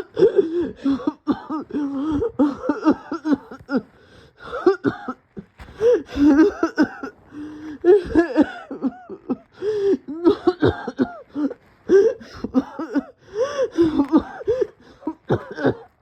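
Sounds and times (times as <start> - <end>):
person coughing: 0.0 - 3.8, 4.5 - 15.9.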